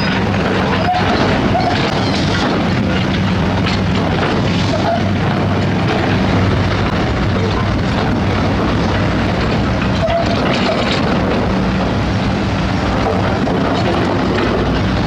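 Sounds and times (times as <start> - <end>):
heavy machinery diesel engines: 0.0 - 15.0.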